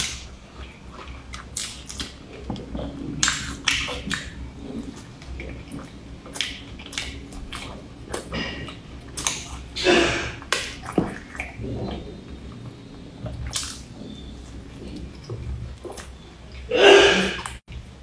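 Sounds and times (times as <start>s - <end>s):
chewing pastry: 0.0s - 16.7s
wet mouth noises: 0.0s - 17.6s.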